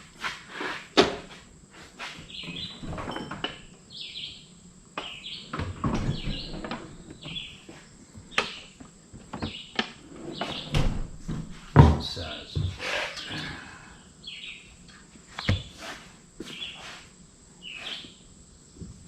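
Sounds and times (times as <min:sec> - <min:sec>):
birds chirping: 0:02.2 - 0:17.0, 0:17.6 - 0:18.4.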